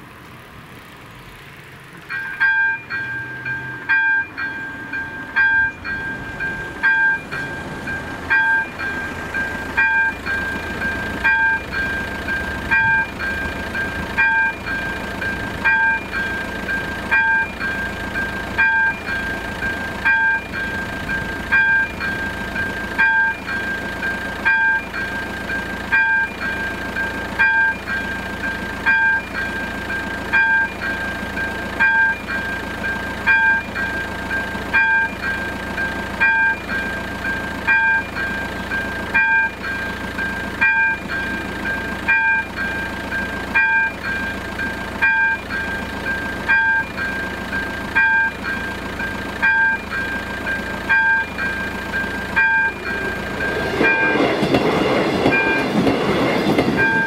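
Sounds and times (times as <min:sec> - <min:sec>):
level-crossing bell dinging: 0:02.0 - 0:57.0.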